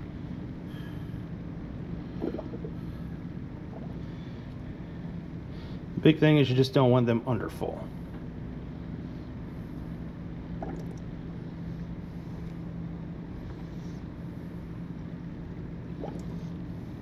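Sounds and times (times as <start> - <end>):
low mechanical hum of machinery: 0.0 - 17.0.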